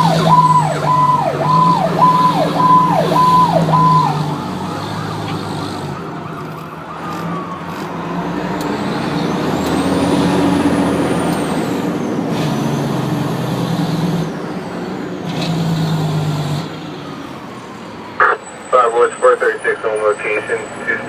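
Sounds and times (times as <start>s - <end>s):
diesel engine running: 0.0s - 21.0s
road noise: 0.0s - 21.0s.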